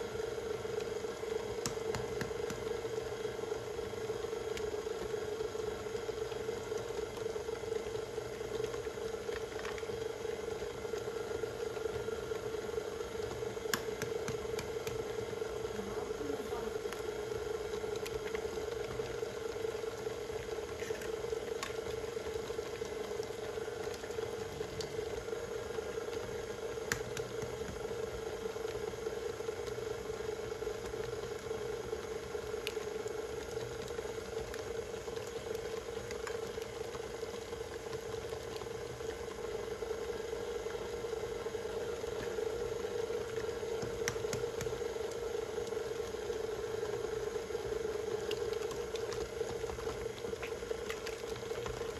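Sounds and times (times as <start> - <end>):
stand mixer motor humming: 0.0 - 51.9.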